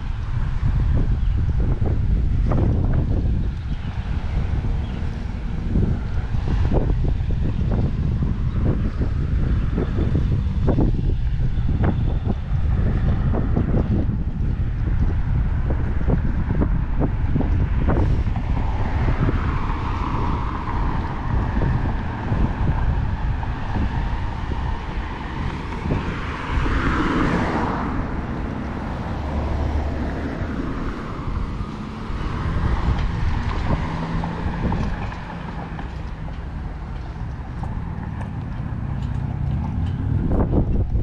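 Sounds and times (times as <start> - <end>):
road traffic passing: 0.0 - 41.0
wind buffeting microphone: 0.0 - 41.0.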